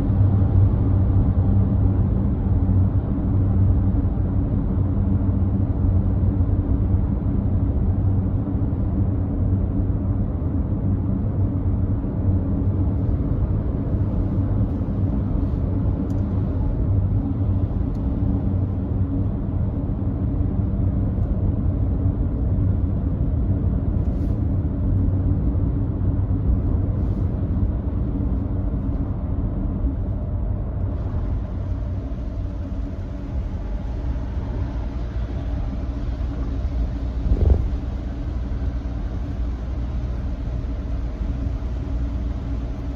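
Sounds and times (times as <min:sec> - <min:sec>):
road and tyre rumble: 0:00.0 - 0:42.9.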